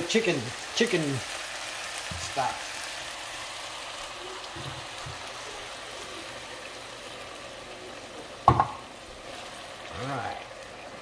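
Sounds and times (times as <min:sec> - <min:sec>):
liquid sizzling in hot pan: 0:00.0 - 0:11.0.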